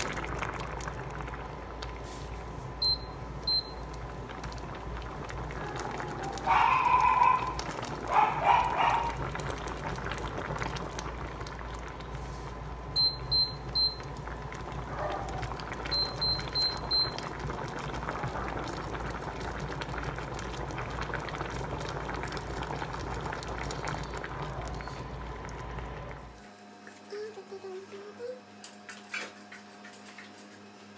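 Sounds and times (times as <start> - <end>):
soup bubbling at a boil: 0.0 - 26.4.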